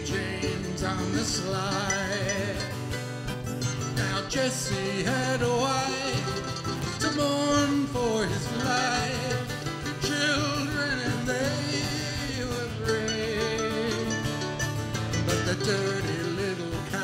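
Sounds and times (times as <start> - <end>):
acoustic guitar strumming: 0.0 - 17.0
mandolin picking a melody: 0.0 - 17.0.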